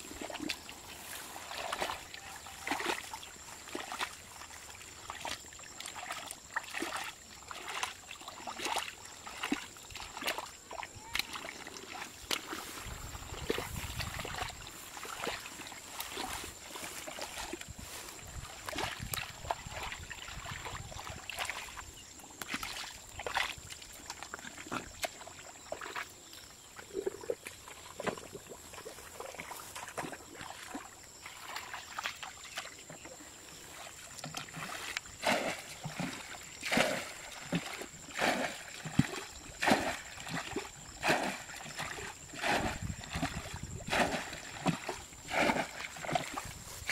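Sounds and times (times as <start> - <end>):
hands splashing in muddy water: 0.0 - 26.1, 33.7 - 46.9.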